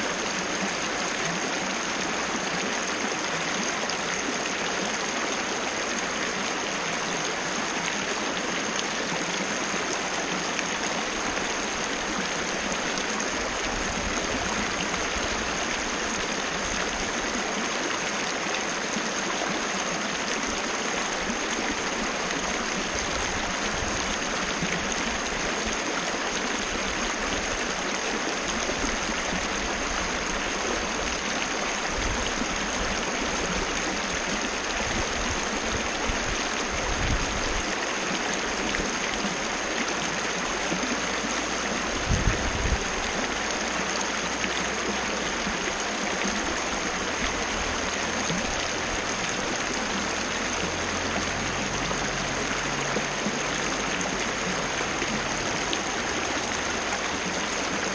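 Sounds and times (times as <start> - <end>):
waterfall rushing: 0.0 - 57.9.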